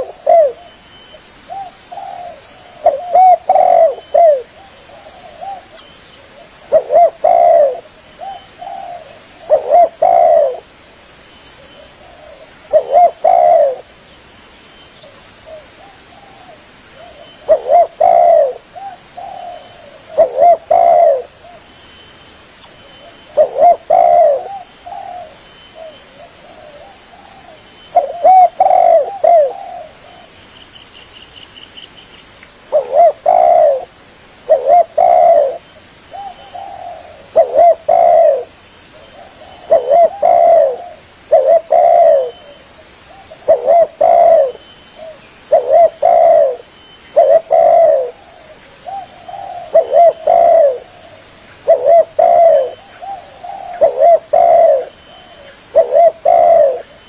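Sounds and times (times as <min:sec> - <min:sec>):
dove cooing: 0:00.0 - 0:10.8, 0:11.6 - 0:14.0, 0:15.0 - 0:21.6, 0:23.0 - 0:30.4, 0:32.6 - 0:57.0.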